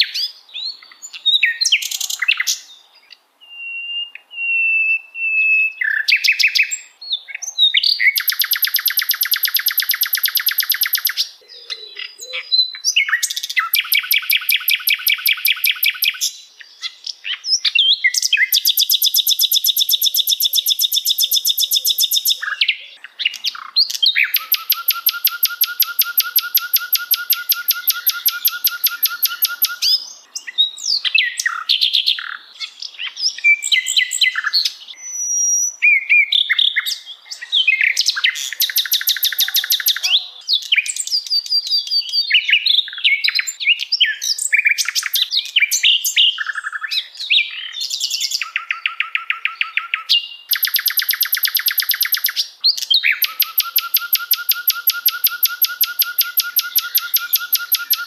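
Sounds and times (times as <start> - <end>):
songbird trills: 0.0 - 58.0
bird chirps and whistles: 3.5 - 11.3, 12.2 - 17.0, 17.6 - 22.8, 23.6 - 32.7, 33.3 - 37.0, 37.6 - 40.1, 40.7 - 58.0.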